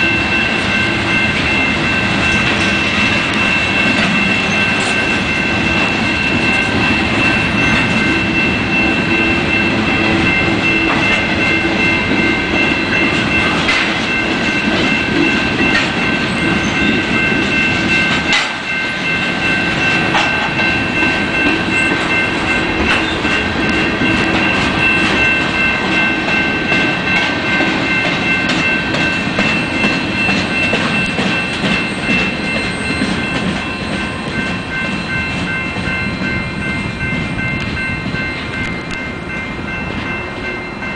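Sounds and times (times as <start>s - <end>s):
freight train wheels rumbling: 0.0s - 40.9s
high ringing tones: 0.0s - 40.9s
wheels clacking over rail joints: 0.6s - 36.3s.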